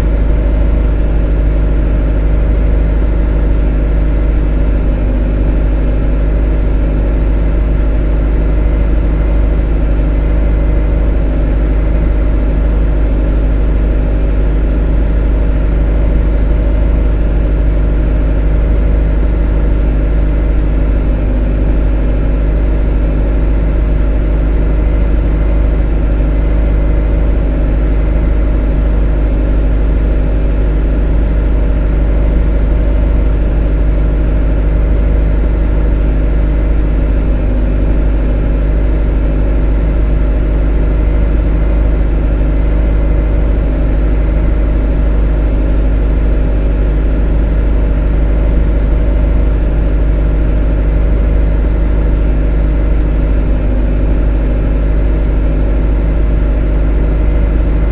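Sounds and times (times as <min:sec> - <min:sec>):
motor humming steadily: 0:00.0 - 0:57.9.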